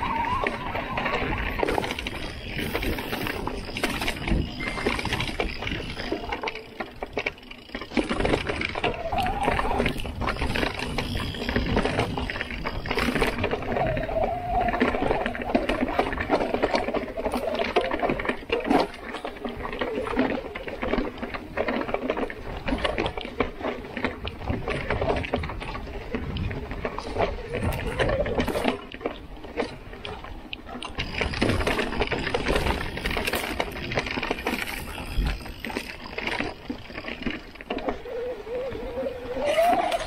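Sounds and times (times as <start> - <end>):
bike chain and frame rattling: 0.0 - 40.0
bike tyres crunching on dirt and rock: 0.0 - 40.0.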